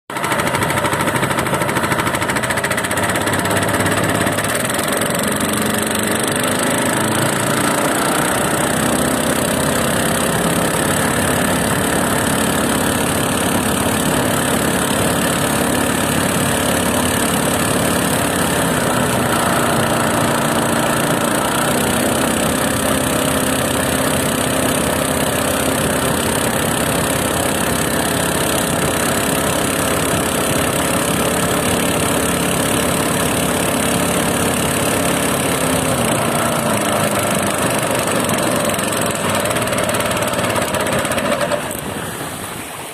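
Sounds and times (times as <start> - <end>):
boat motor engine running: 0.1 - 42.9.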